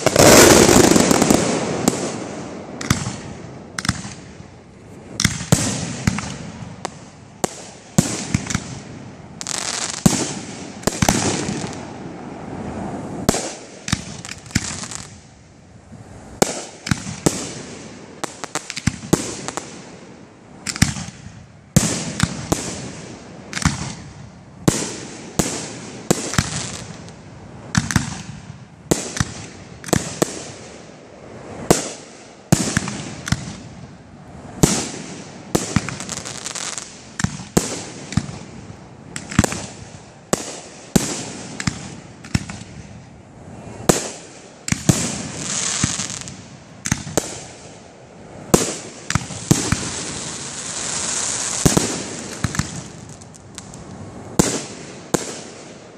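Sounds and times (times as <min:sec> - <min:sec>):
fireworks launching and bursting: 0:00.0 - 0:55.9.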